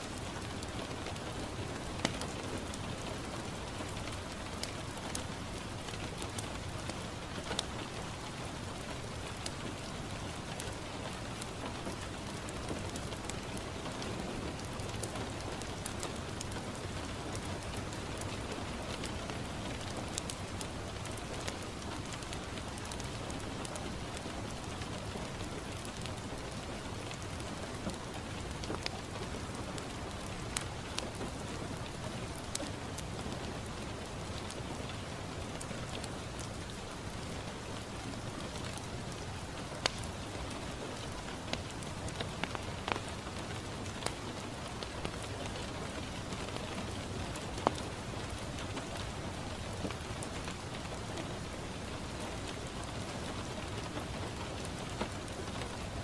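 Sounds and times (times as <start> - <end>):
rain on a window: 0.0 - 56.0
wood fire crackling and popping: 0.1 - 56.0.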